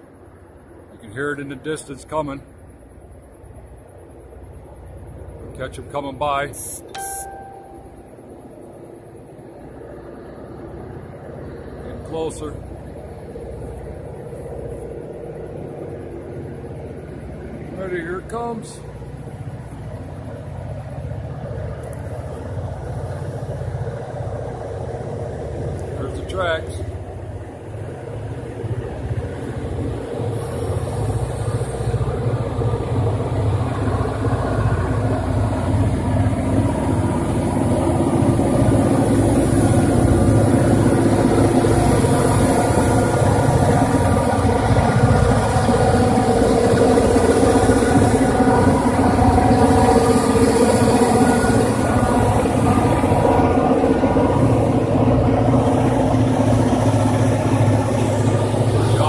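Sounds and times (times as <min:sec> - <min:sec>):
diesel freight train passing: 0:00.0 - 0:59.0.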